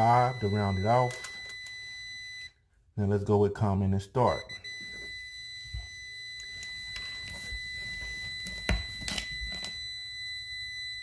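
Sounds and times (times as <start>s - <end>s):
meter continuity beep: 0.0s - 2.6s, 4.2s - 11.0s.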